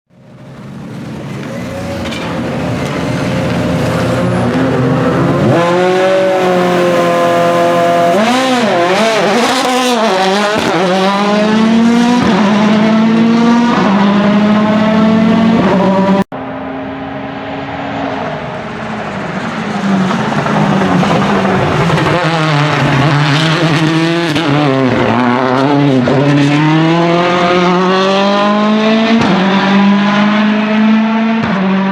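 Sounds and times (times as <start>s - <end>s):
rally car engine revving: 0.2s - 31.9s.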